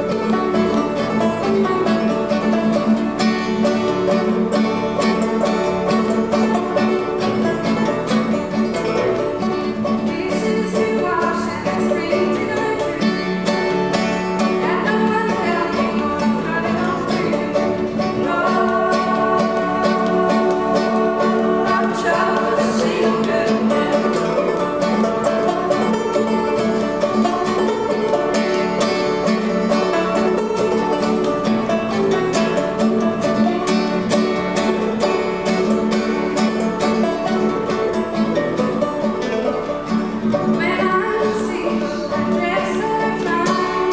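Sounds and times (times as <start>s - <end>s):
banjo playing: 0.0s - 43.9s
strummed acoustic guitar: 0.0s - 43.9s.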